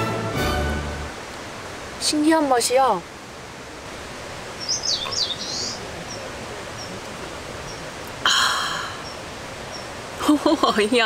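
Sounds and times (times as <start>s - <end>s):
background hiss: 0.0s - 11.0s
songbird chirping: 1.0s - 11.0s.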